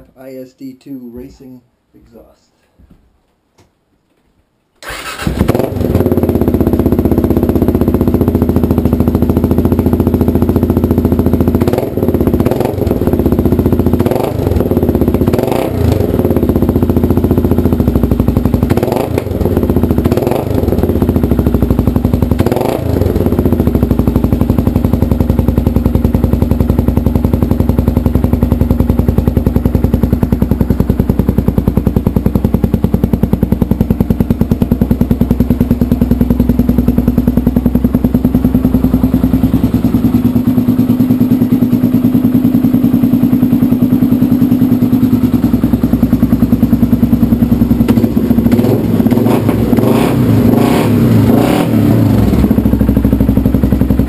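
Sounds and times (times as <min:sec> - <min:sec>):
motorcycle engine revving and idling: 0:04.8 - 0:54.0.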